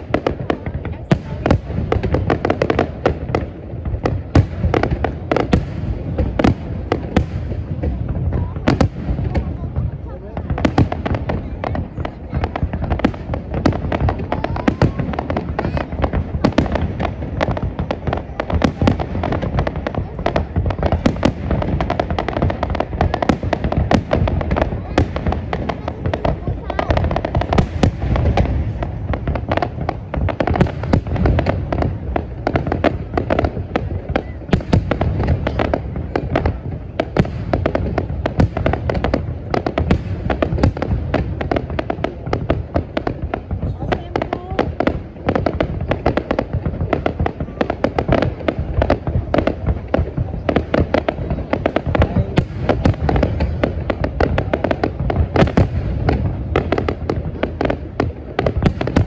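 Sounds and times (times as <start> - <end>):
fireworks bangs: 0.0 - 59.0
low rumble of fireworks bursts: 0.0 - 59.0.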